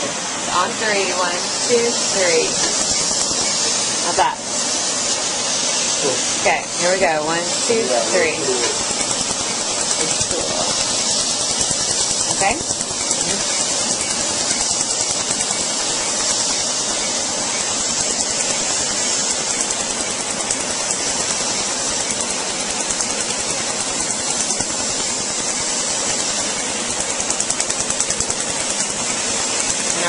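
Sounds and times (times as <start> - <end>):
air hose hissing: 0.0 - 30.0.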